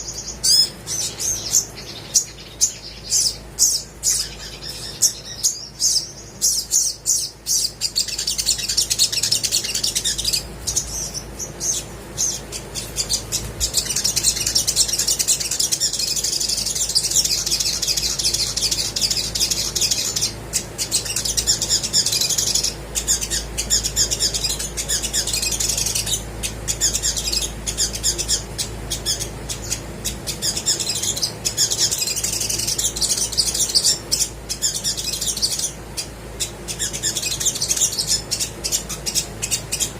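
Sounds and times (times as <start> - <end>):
sunbird chirps and trills: 0.0 - 39.9.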